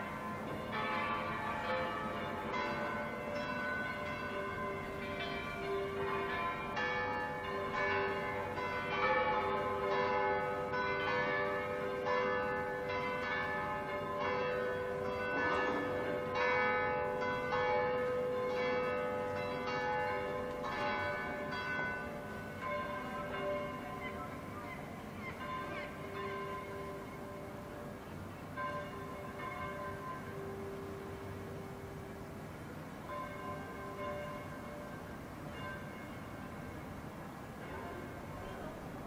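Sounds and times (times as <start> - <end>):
church bells pealing: 0.0 - 39.0.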